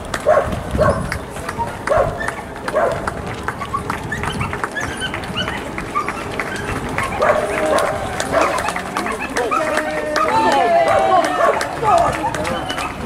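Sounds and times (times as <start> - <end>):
footsteps slapping on road: 0.0 - 13.0.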